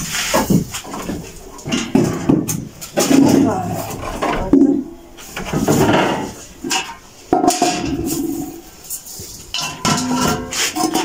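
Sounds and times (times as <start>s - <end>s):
plastic buckets knocking: 0.0s - 11.0s
rustling and scraping: 0.0s - 11.0s.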